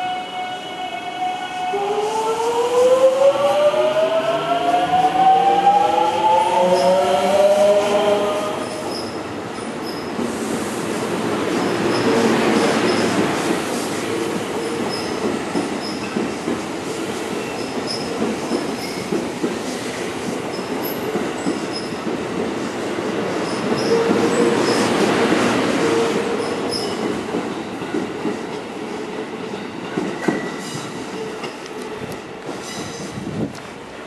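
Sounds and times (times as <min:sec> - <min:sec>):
train wheels rumbling: 0:01.7 - 0:34.0.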